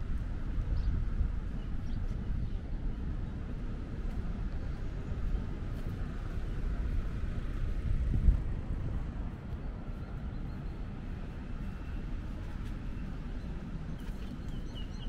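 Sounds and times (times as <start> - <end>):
faint city ambience: 0.0 - 15.0
wind buffeting microphone: 0.0 - 15.0.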